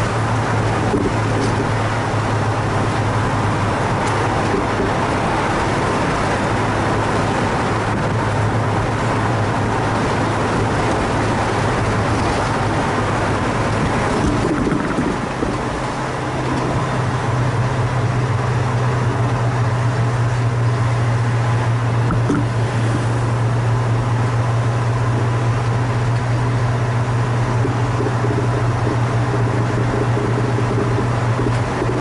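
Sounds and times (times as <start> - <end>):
car engine driving: 0.0 - 32.0
tyre and road noise: 0.0 - 32.0.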